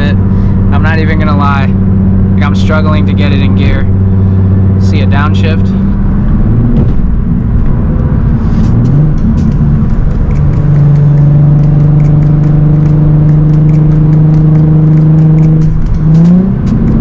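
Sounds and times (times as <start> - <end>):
car engine droning from inside cabin: 0.0 - 17.0.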